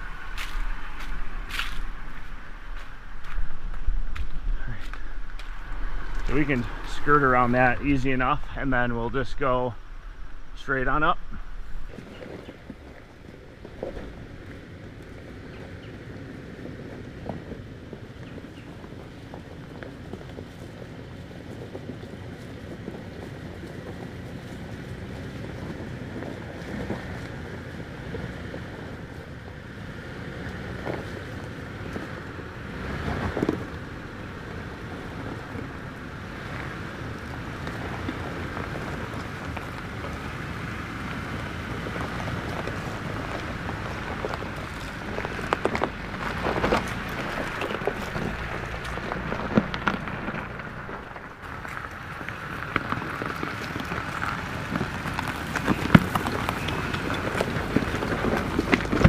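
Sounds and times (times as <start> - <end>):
stones clicking under tyres: 0.0 - 8.3, 9.9 - 59.0
engine and tyres on rock: 0.0 - 59.0.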